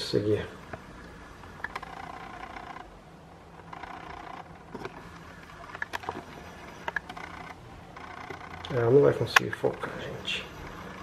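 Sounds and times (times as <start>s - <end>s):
camera lens motor whirring: 0.6s - 11.0s.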